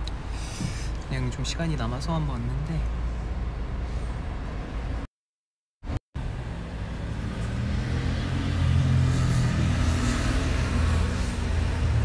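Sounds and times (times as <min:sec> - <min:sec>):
van engine and road rumble: 0:00.0 - 0:05.1, 0:05.8 - 0:12.0.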